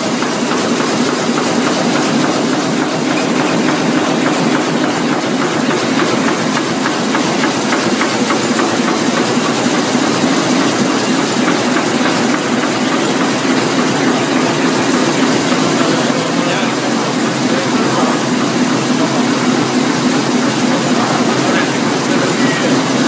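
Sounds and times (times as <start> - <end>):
printing press running: 0.0 - 23.0.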